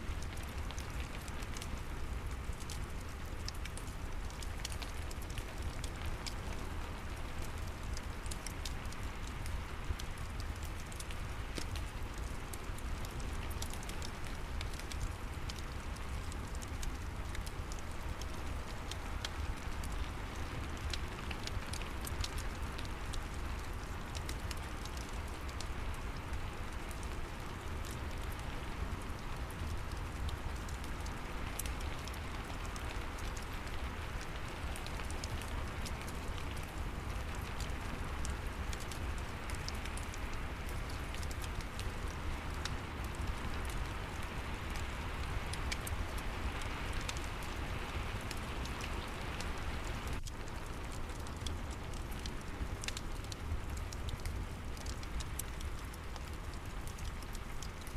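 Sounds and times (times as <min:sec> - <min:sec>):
steady rain hiss: 0:00.0 - 0:57.9
fireplace crackling: 0:00.1 - 0:57.9.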